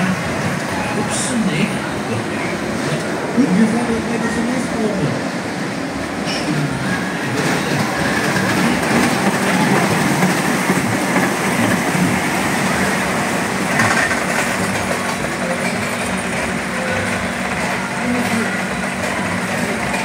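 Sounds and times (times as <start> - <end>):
roller coaster wheels on rails: 0.0 - 20.0.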